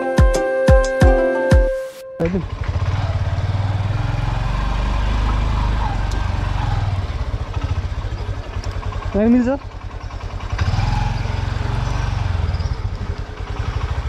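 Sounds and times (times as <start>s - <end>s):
motorcycle engine running: 2.2s - 14.0s.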